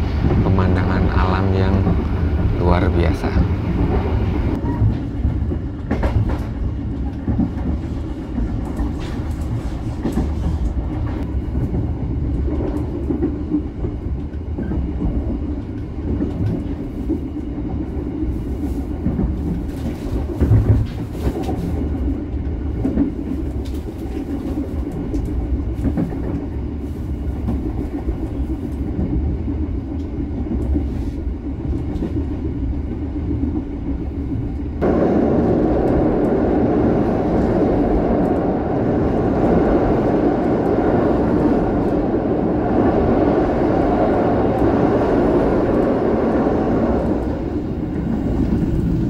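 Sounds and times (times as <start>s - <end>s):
train low rumble: 0.0s - 49.0s.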